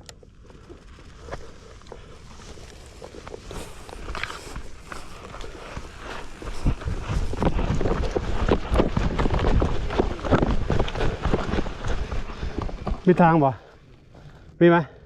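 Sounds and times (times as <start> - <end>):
footsteps crunching on trail: 0.0 - 14.6.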